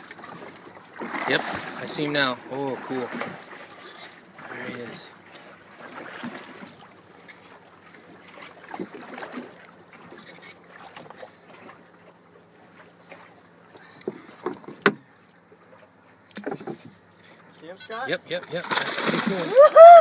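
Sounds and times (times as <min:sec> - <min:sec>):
water sloshing against boat: 0:00.0 - 0:20.0.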